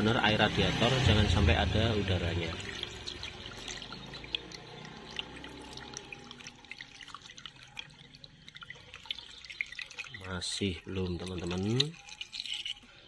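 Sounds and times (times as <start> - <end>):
drips and splashes: 0.0 - 13.0
liquid pouring into plastic funnel: 1.3 - 13.0.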